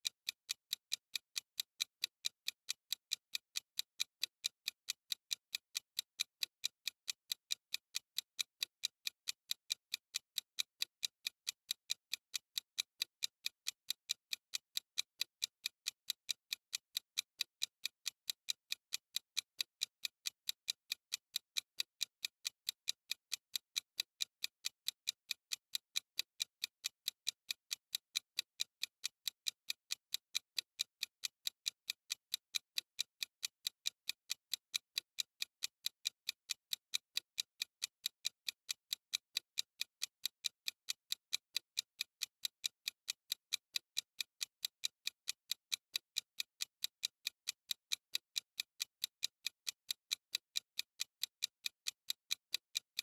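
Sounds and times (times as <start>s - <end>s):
clock ticking: 0.0s - 53.0s.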